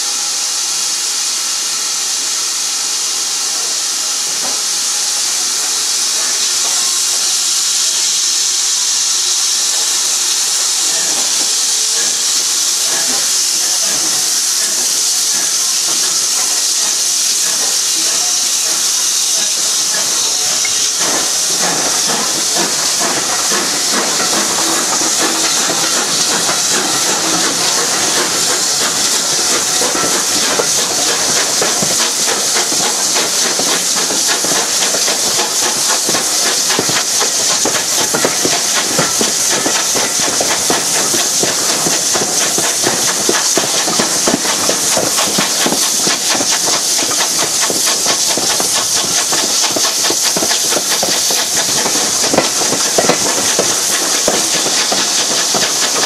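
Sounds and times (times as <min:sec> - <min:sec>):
steam locomotive hissing: 0:00.0 - 0:56.0
train wheels over pointwork: 0:04.1 - 0:56.0.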